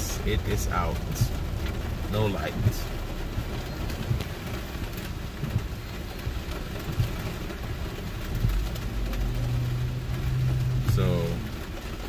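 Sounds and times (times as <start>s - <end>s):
car engine idling: 0.0s - 12.0s
heavy rain on car roof: 0.0s - 12.0s
sharp raindrop ticks: 0.0s - 12.0s.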